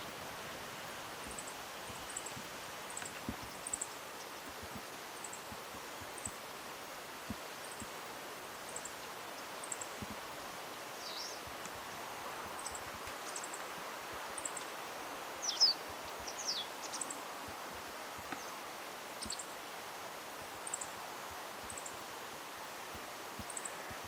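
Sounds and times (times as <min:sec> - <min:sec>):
steady outdoor hiss: 0:00.0 - 0:24.0.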